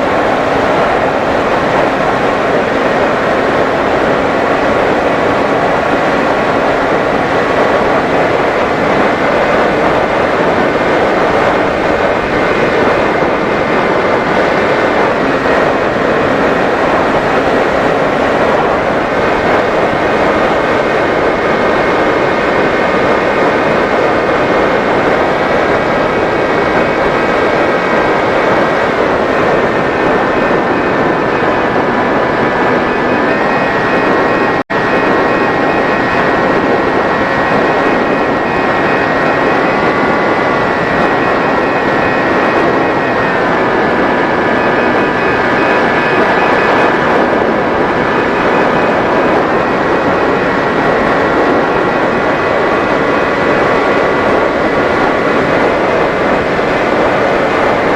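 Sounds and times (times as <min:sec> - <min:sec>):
steady rush of noise: 0:00.0 - 0:57.9.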